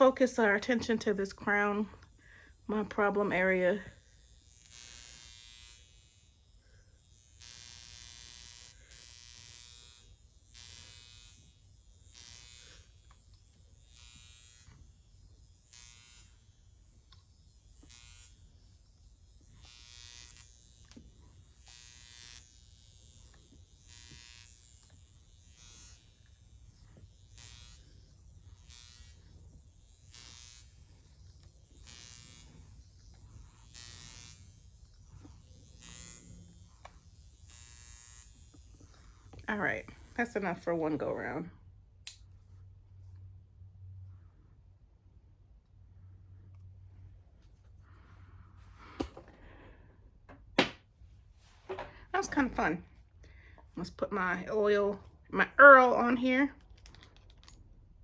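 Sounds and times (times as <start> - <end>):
electric wand buzzing: 0.0 - 42.4, 47.4 - 57.8.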